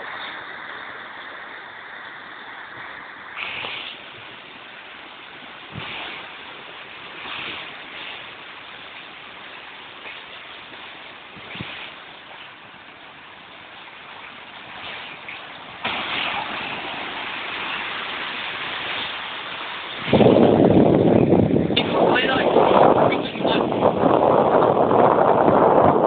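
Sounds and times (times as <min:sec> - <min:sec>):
muddy stream rushing: 0:00.0 - 0:26.0.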